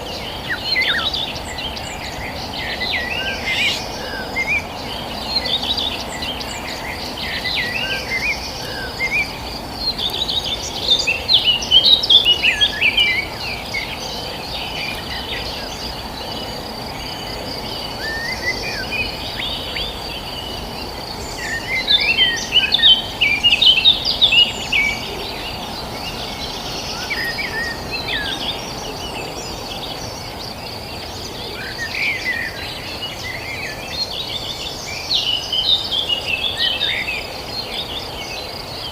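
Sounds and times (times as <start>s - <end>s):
high insect drone: 0.0s - 38.9s
songbirds chirping: 0.0s - 38.9s.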